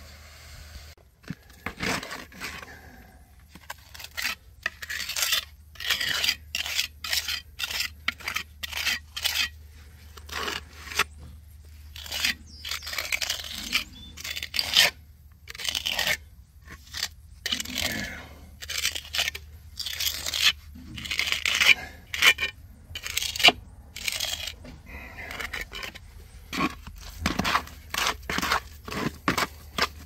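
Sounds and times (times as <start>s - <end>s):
trowel scraping concrete: 1.2s - 30.0s.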